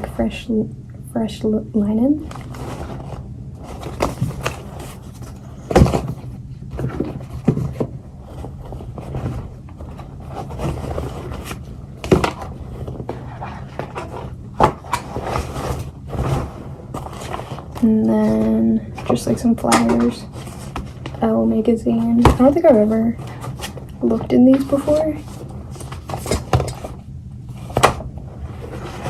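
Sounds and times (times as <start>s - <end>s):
paper and packaging rustling: 2.2s - 29.0s.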